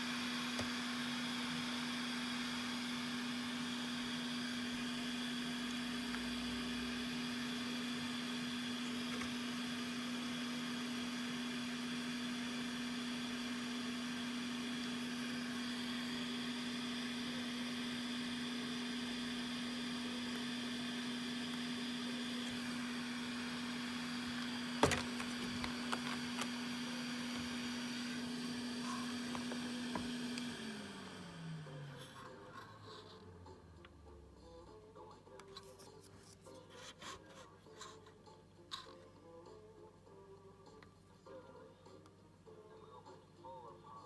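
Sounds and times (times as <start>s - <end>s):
electrical hum: 0.0s - 35.9s.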